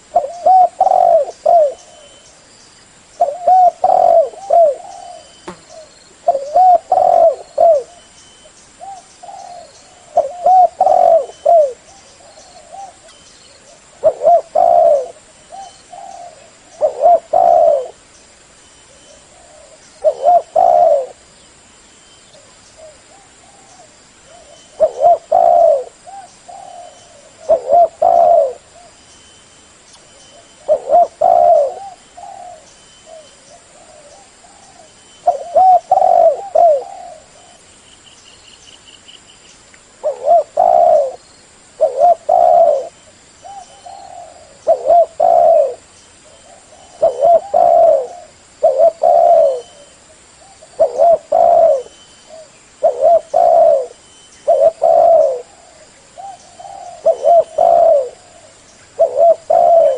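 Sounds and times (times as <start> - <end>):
dove cooing: 0.0 - 2.2, 3.2 - 8.1, 8.8 - 18.0, 18.9 - 21.2, 22.4 - 29.0, 30.3 - 37.6, 40.0 - 41.2, 41.8 - 59.9.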